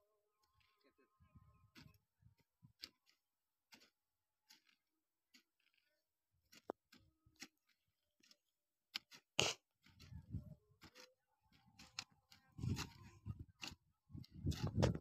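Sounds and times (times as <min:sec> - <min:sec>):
hoe scraping soil: 0:00.5 - 0:15.0.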